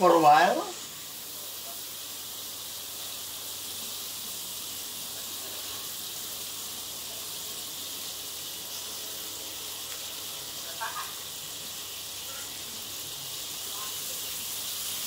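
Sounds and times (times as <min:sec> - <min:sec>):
food frying in covered wok: 0:00.0 - 0:15.0.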